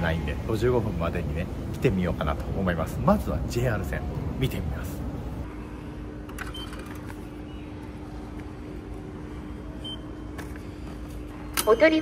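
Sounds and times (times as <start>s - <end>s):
low hum of station concourse: 0.0s - 12.0s.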